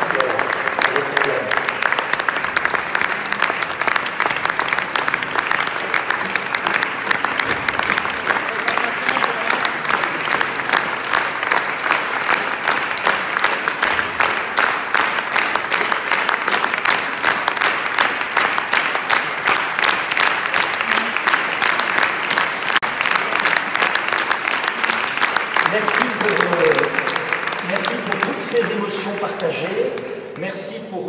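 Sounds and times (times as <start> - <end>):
large audience applauding: 0.0 - 30.8.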